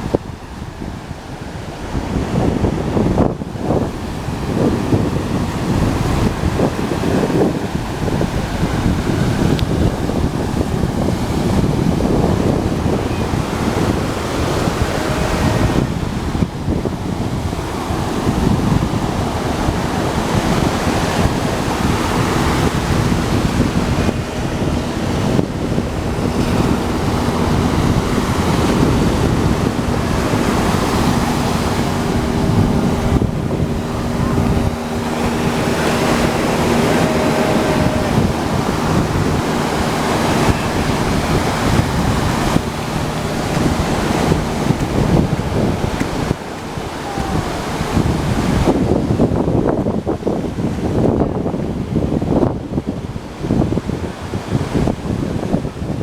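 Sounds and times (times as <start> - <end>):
ocean surf washing onto beach: 0.0 - 56.0
wind buffeting microphone: 0.0 - 56.0.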